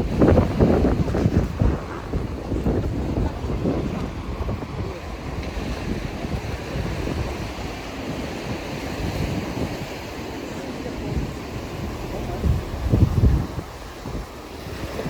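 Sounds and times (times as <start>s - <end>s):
rushing outdoor background: 0.0s - 15.0s
wind buffeting microphone: 0.0s - 15.0s.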